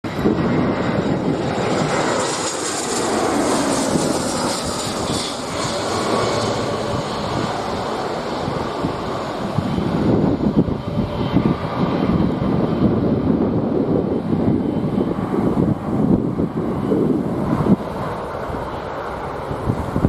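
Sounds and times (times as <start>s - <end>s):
jet engines running: 0.0s - 20.0s
wind rumbling on microphone: 0.0s - 20.0s.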